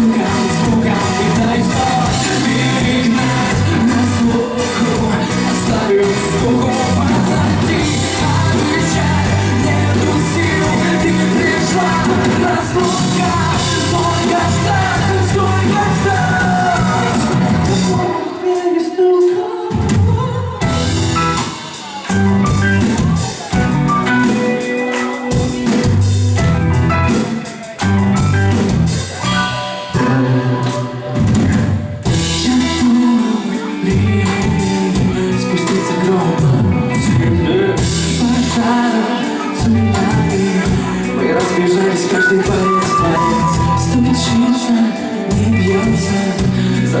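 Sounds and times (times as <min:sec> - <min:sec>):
drum kit: 0:00.0 - 0:47.0
live rock band playing: 0:00.0 - 0:47.0.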